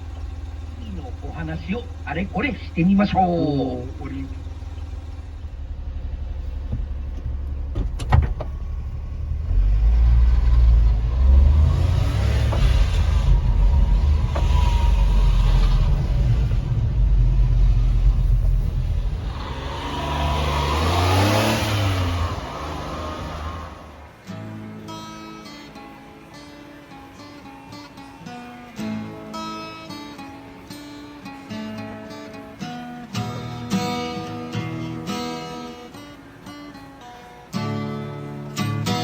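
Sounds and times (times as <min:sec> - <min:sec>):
road noise: 0:00.0 - 0:39.0
small truck engine revving: 0:00.0 - 0:39.0.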